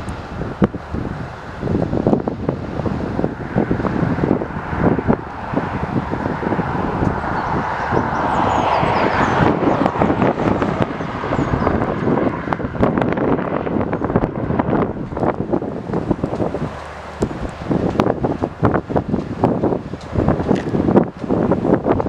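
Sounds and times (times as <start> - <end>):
jet aircraft rush: 0.0 - 22.0
wind buffeting microphone: 0.0 - 22.0.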